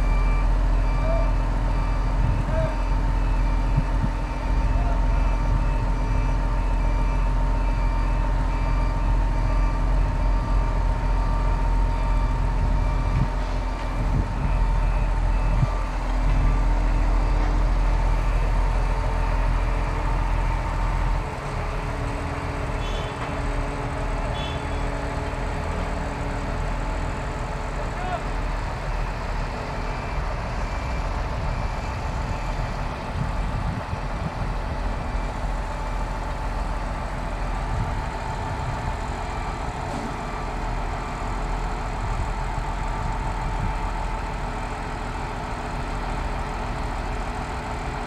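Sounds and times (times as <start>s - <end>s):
heavy diesel engine running: 0.0s - 48.0s.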